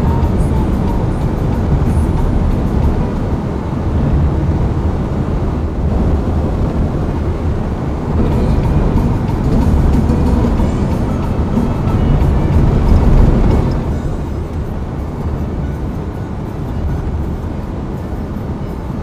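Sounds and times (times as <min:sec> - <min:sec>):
car road noise rumble: 0:00.0 - 0:19.0.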